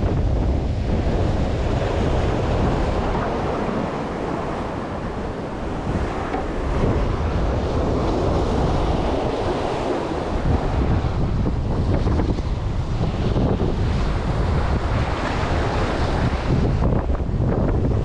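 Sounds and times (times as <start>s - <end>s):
sea waves: 0.0s - 18.0s
wind buffeting microphone: 0.0s - 18.0s.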